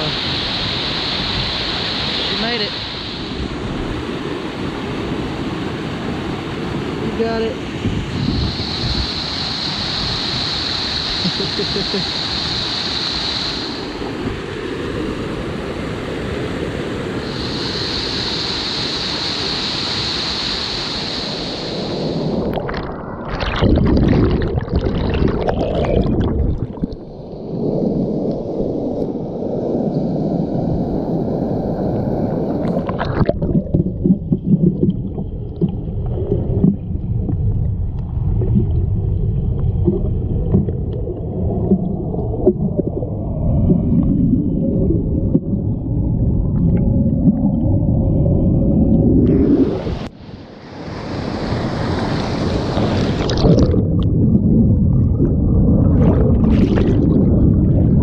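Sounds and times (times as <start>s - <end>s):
churning water close up: 0.0s - 17.4s, 21.3s - 28.0s, 32.5s - 58.0s
muffled underwater rumble and gurgle: 0.0s - 58.0s.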